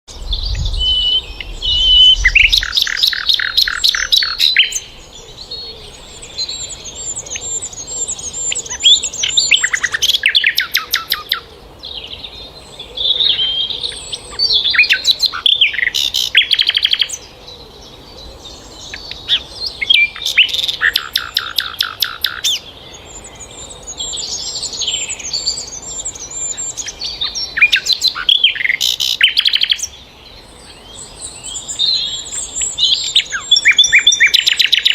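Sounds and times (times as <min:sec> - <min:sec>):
songbirds trilling and whistling: 0:00.1 - 0:34.9.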